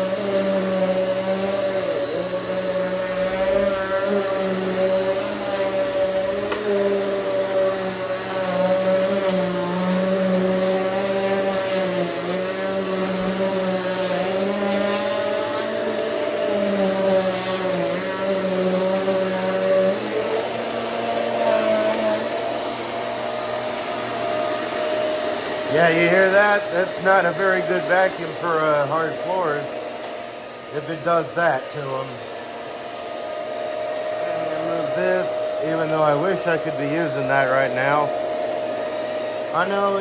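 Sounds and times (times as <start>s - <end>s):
upright vacuum cleaner running: 0.0s - 40.0s.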